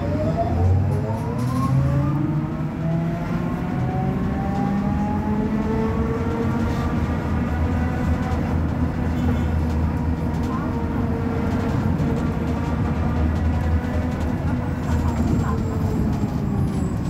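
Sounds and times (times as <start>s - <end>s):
rumble of bus ride: 0.0s - 17.0s.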